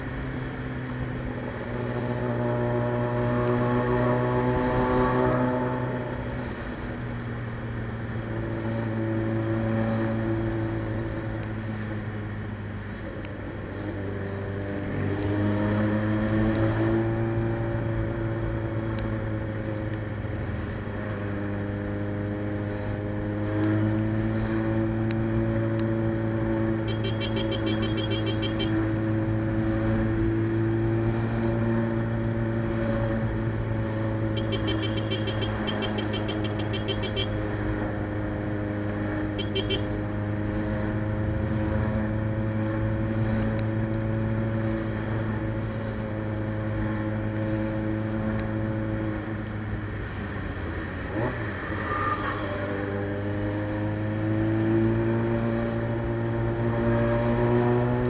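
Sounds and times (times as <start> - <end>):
motorcycle engine while riding: 0.0 - 58.0.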